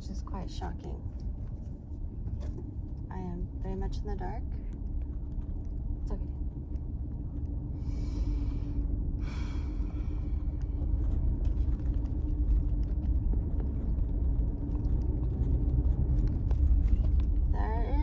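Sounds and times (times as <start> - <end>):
constant hum: 0.0 - 18.0
engine and tyre rumble: 0.0 - 18.0.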